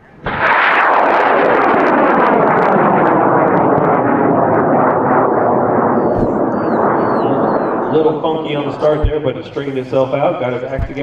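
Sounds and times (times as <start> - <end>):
rocket motor roaring: 0.0 - 11.0.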